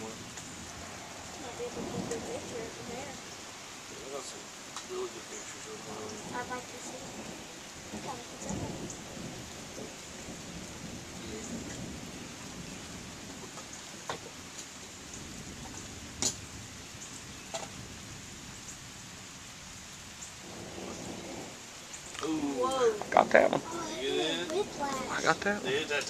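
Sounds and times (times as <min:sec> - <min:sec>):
low thunder rumbling: 0:00.0 - 0:26.0
steady rain: 0:00.0 - 0:26.0.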